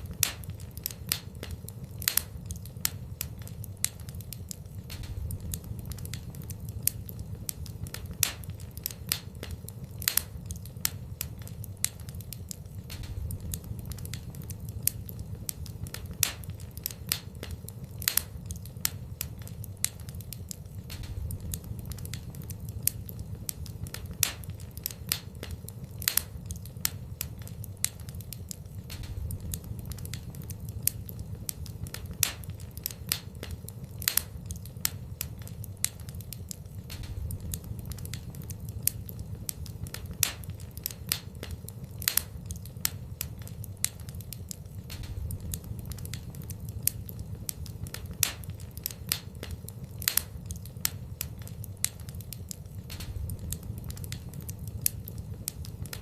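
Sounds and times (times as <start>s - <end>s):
fire crackling and popping: 0.0s - 56.0s
low fire rumble: 0.0s - 56.0s.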